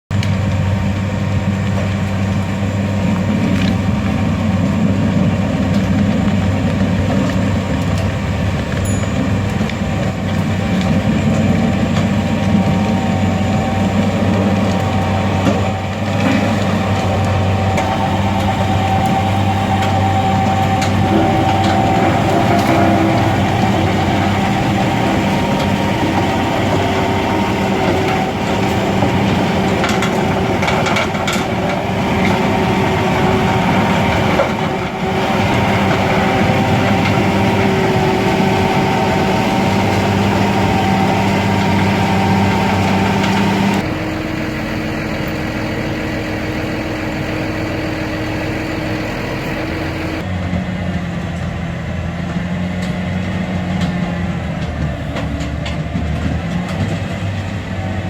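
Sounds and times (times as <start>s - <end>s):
tractor diesel engine running: 0.0s - 58.0s
rotavator mechanical clatter: 0.1s - 58.0s.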